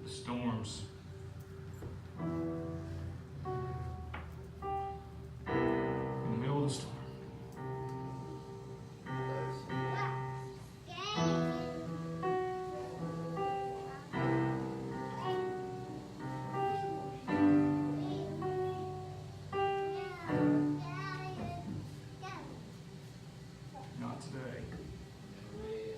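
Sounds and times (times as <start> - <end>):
keyboard playing slow chords: 0.0 - 22.2.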